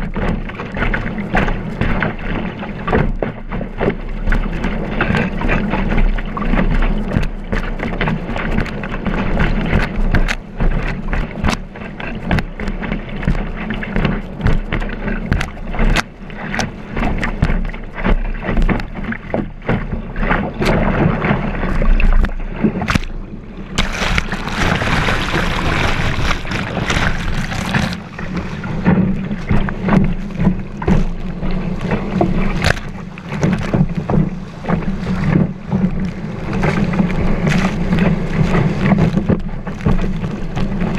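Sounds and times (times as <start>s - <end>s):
water rushing along a kiteboard: 0.0s - 40.9s.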